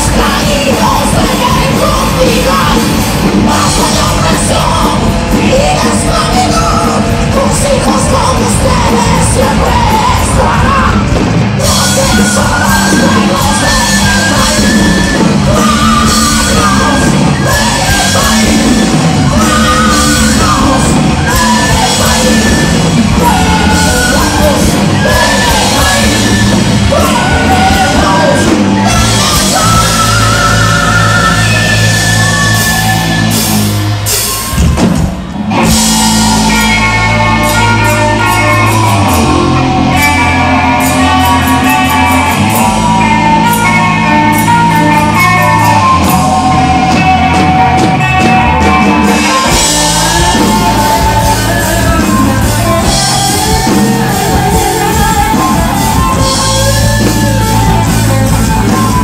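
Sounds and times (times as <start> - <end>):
person singing and shouting: 0.0 - 34.9, 35.5 - 59.0
bass guitar: 0.0 - 59.0
drum kit: 0.0 - 59.0.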